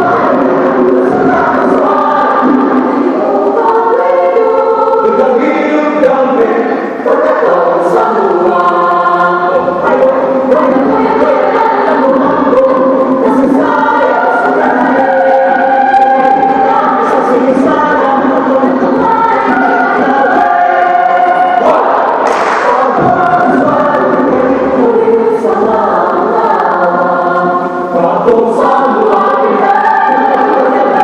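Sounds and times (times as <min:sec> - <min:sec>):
choir singing in parts: 0:00.0 - 0:31.0.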